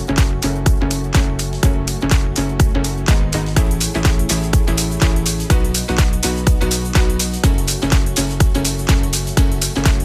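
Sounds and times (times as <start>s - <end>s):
electronic dance music: 0.0s - 10.0s
kick drum: 0.0s - 10.0s.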